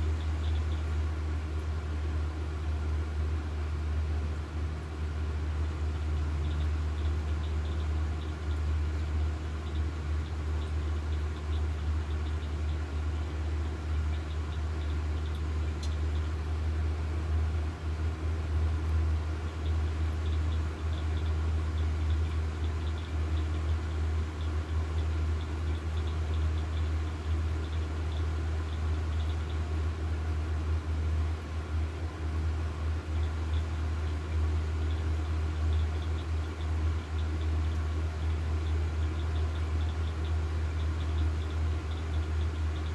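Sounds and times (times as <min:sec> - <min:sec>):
low machine hum: 0:00.0 - 0:42.9
faint rapid ticking: 0:05.4 - 0:42.9.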